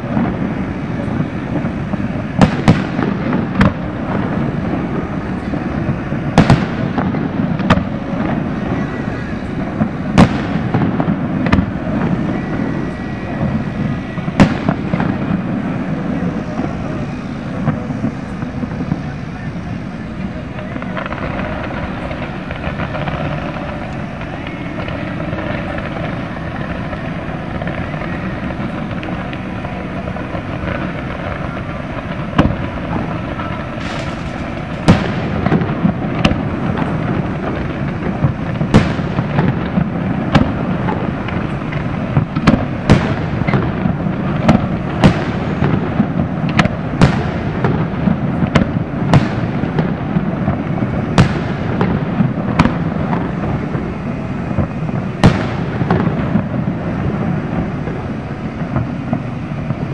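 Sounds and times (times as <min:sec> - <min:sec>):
background noise: 0:00.0 - 0:59.9
firework shell bursts: 0:00.0 - 0:59.9.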